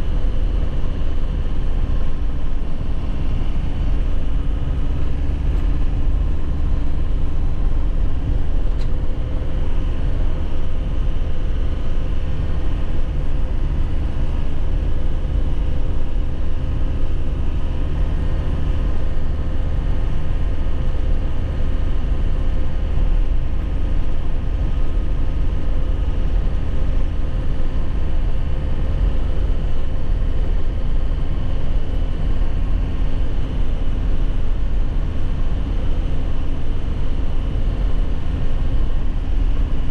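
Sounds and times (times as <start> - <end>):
road and tyre rumble: 0.0 - 39.9
truck engine running: 0.0 - 39.9.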